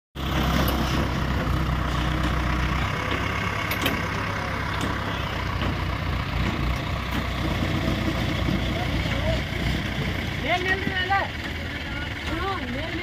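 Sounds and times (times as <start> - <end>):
crane diesel engine humming: 0.2 - 13.0.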